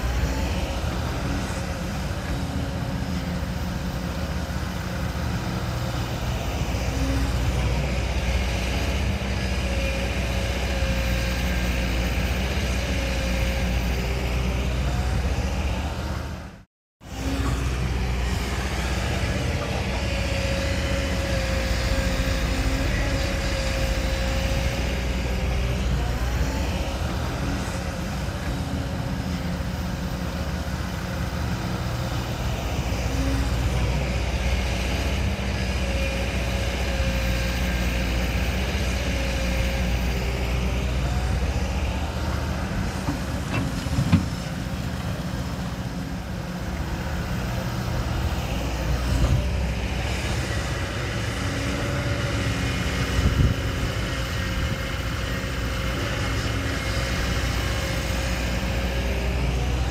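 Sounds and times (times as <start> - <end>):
diesel machinery running: 0.0 - 59.9.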